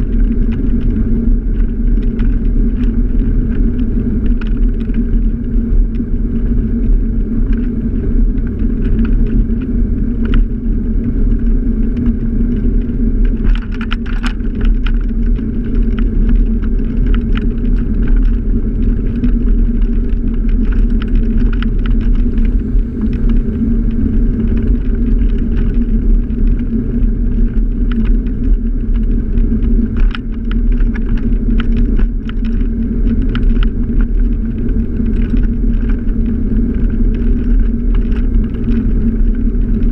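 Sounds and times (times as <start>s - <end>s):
light rattles and clicks: 0.0s - 39.9s
scooter motor rumble: 0.0s - 39.9s.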